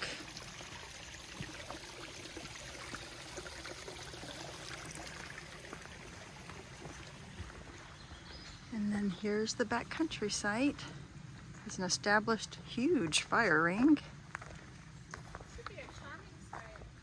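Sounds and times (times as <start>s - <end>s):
creek flowing water: 0.0s - 17.0s.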